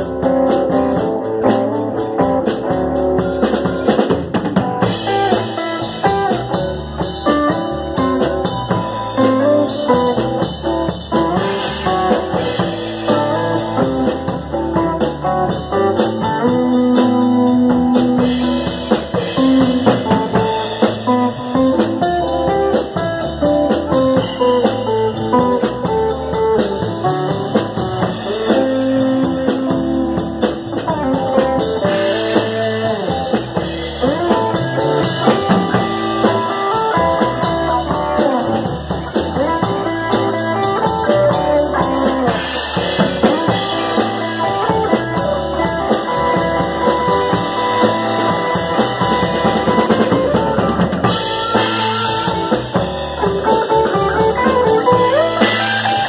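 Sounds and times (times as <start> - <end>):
drum kit beat: 0.0 - 56.0
electric guitars: 0.0 - 56.0.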